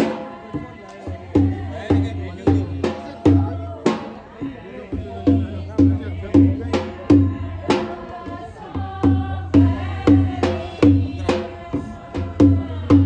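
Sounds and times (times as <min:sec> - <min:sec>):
music with steady drum beat: 0:00.0 - 0:13.0.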